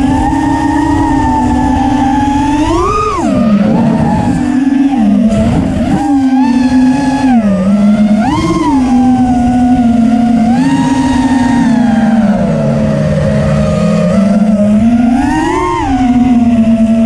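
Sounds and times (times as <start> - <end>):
quadcopter motors whining: 0.0 - 17.0
wind rush: 0.0 - 17.0.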